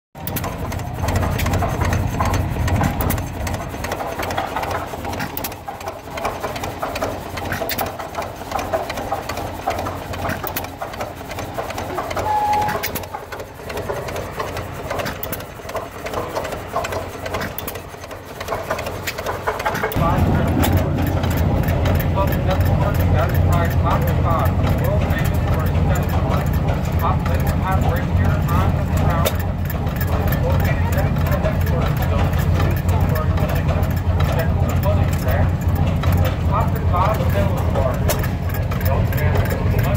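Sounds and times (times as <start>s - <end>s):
stationary gas engine clattering: 0.2s - 39.9s.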